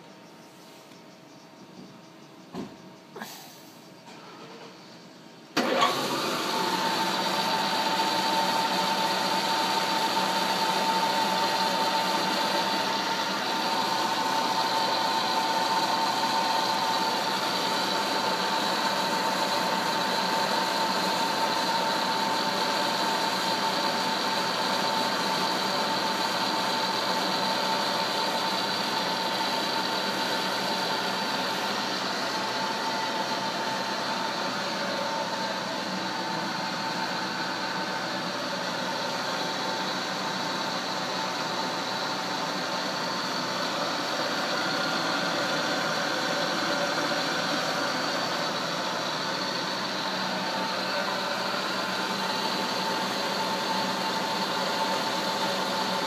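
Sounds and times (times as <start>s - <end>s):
high machine whine: 0.0s - 56.0s
milling machine hum: 5.6s - 56.0s.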